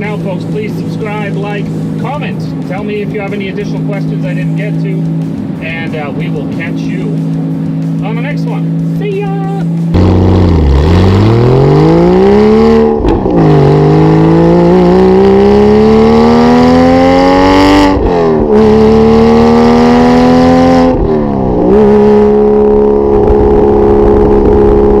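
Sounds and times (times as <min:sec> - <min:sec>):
car engine accelerating and shifting: 0:00.0 - 0:25.0.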